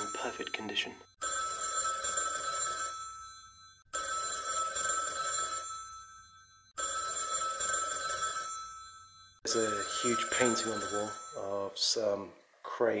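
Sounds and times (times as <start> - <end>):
telephone bell ringing: 0.0 - 11.7.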